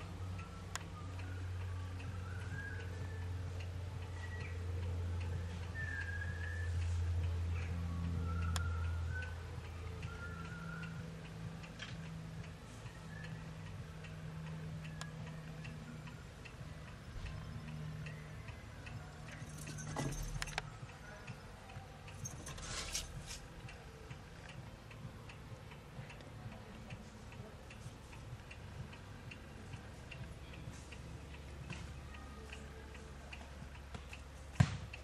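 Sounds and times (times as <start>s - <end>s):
faint regular ticking: 0.0s - 35.0s
low steady hum: 0.0s - 35.0s.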